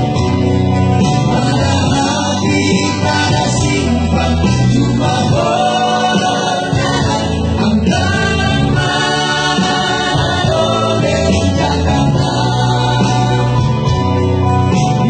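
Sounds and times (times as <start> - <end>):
electronic keyboard: 0.0 - 15.0
men singing together: 1.2 - 14.0.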